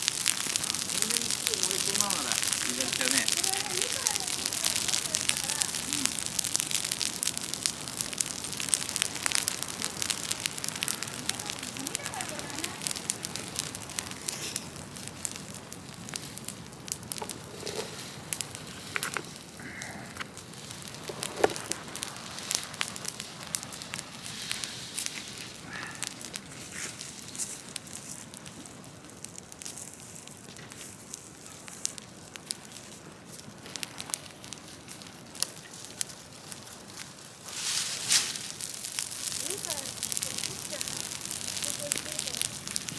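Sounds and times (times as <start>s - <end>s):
bonfire crackling and popping: 0.0s - 42.9s.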